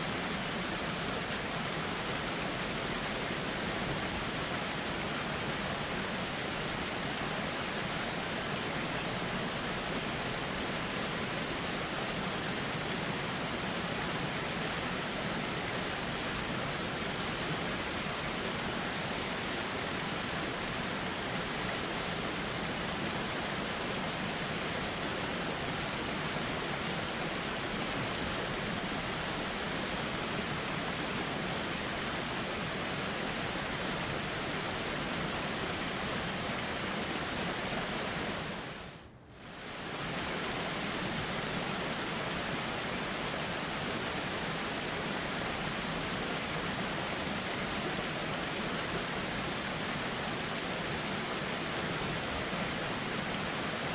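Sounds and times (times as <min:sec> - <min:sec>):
river flowing: 0:00.0 - 0:53.9.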